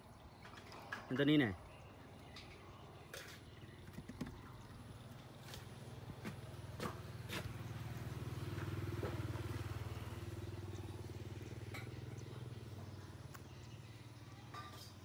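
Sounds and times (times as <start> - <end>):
small engine humming: 3.0 - 15.0.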